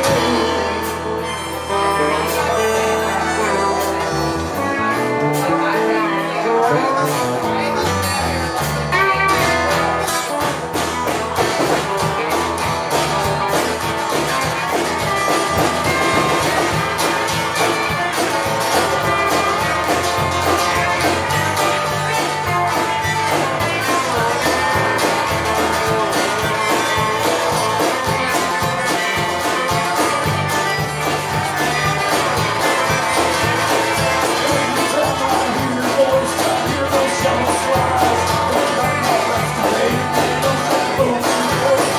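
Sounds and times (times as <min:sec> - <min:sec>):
live rock band playing: 0:00.0 - 0:41.9
strummed acoustic guitar: 0:00.0 - 0:41.9.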